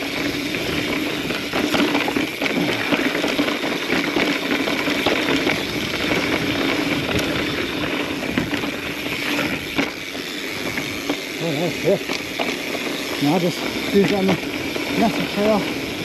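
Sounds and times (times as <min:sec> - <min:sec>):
bike chain and frame rattling: 0:00.0 - 0:16.0
bike tyres rushing over rock: 0:00.0 - 0:16.0
steady buzzing hum: 0:00.0 - 0:16.0.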